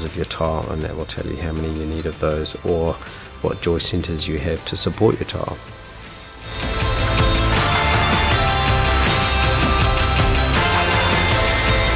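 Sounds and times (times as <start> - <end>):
music with driving drum beat: 0.0 - 11.9.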